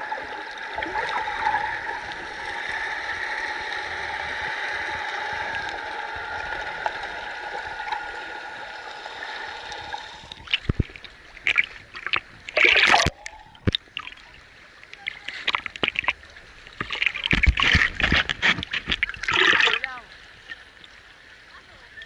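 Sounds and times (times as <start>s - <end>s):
muffled underwater hiss: 0.0s - 22.0s
water splashing and sloshing: 0.0s - 22.0s.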